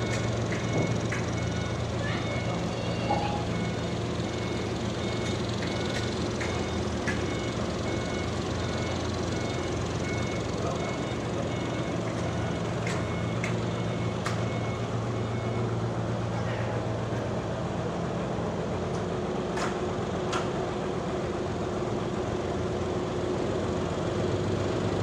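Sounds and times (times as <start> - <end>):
sawmill machinery humming: 0.0 - 25.0.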